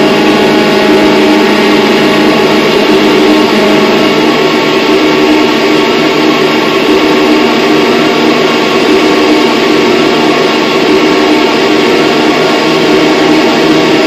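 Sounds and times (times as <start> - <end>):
drone noise music: 0.0 - 14.0.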